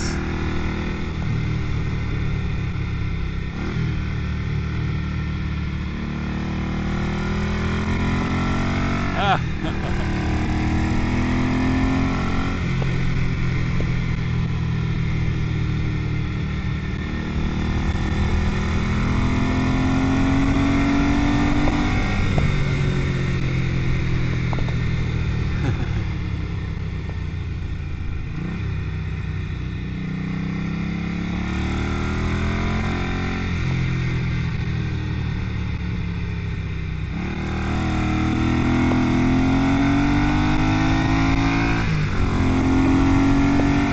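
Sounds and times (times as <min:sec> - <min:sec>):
motorcycle engine shifting gears: 0:00.0 - 0:43.9.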